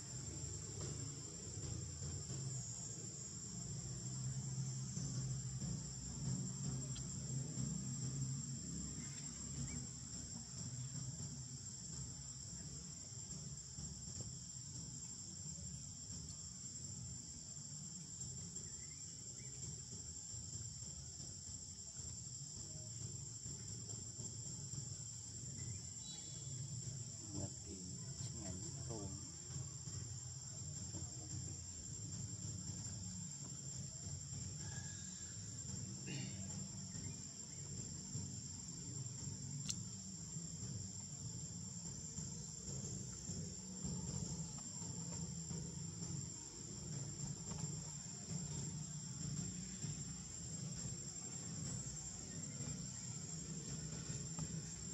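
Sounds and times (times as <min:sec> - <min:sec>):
insect chorus droning: 0:00.0 - 0:54.9
low background rumble: 0:00.0 - 0:54.9.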